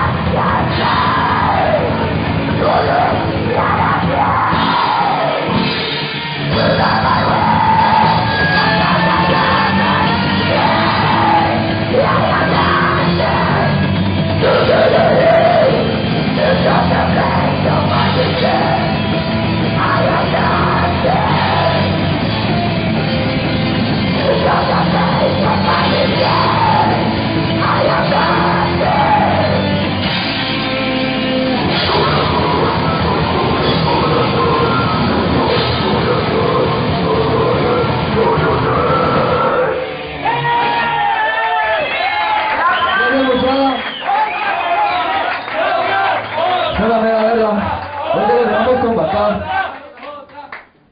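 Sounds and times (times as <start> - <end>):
heavy metal band playing live: 0.0 - 41.2
yelled vocals: 0.0 - 50.0.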